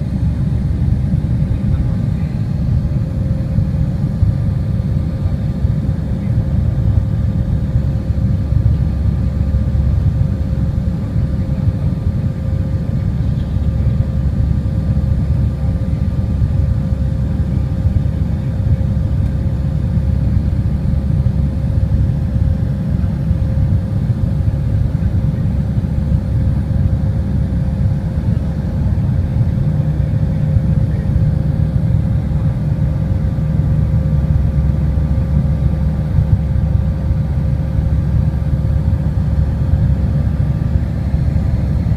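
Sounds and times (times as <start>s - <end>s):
faint steady hums: 0.0s - 41.9s
low rumble of engines and airflow: 0.0s - 41.9s.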